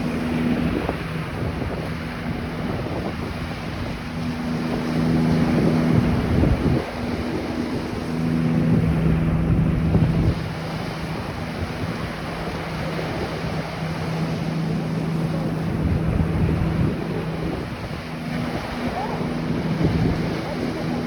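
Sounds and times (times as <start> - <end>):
low engine hum: 0.0 - 21.0
surf washing on beach: 0.0 - 21.0
wind buffeting microphone: 0.0 - 21.0.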